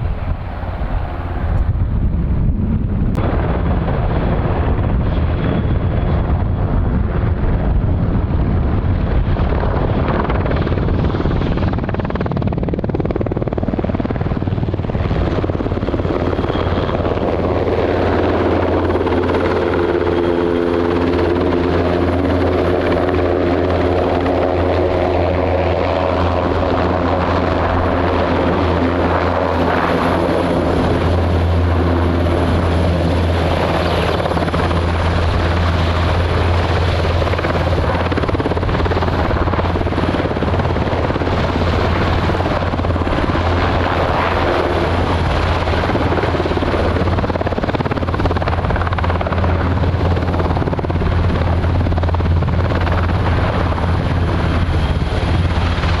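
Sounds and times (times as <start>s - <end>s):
helicopter rotor and engine hum: 0.0s - 56.0s.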